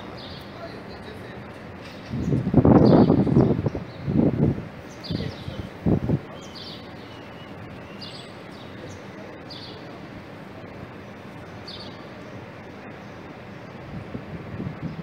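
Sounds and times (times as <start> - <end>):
small birds chirping: 0.0 - 13.8
street noise hum: 0.0 - 15.0.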